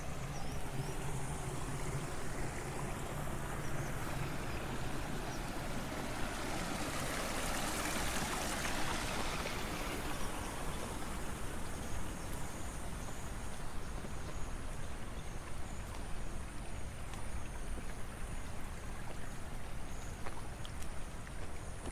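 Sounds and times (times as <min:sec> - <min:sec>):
water rushing in a channel: 0:00.0 - 0:21.9.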